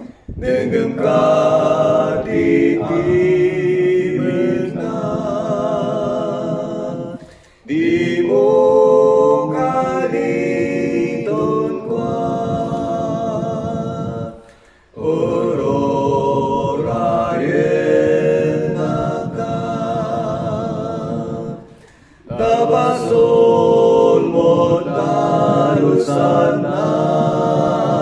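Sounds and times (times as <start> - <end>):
man singing layered a cappella: 0.0 - 28.0.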